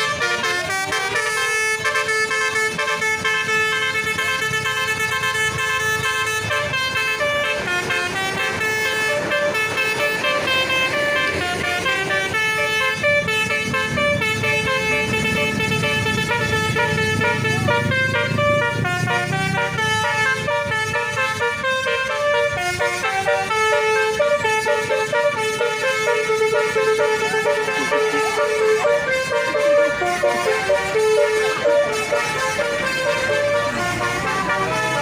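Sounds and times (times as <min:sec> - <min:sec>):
bus horn playing a melody: 0:00.0 - 0:35.0.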